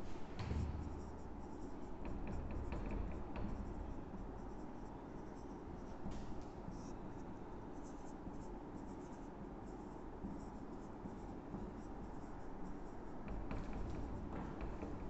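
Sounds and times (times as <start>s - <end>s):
low room hum: 0.0s - 15.0s
marker writing on whiteboard: 0.4s - 15.0s.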